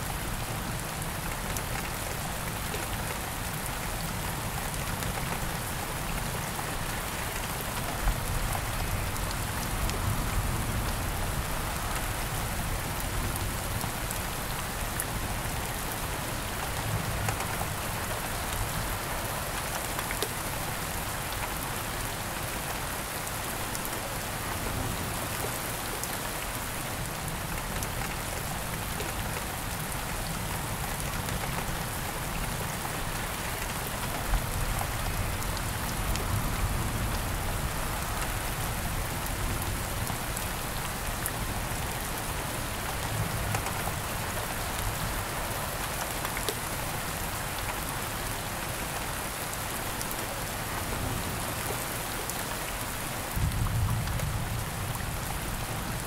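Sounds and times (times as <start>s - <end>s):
raindrops ticking on a surface: 0.0s - 56.0s
steady rain falling: 0.0s - 56.0s.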